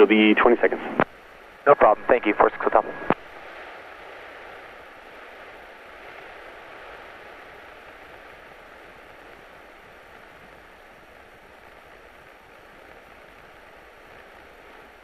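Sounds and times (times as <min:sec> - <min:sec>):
airplane engine and airflow hiss: 0:00.0 - 0:15.0
faint thin whine: 0:00.0 - 0:15.0.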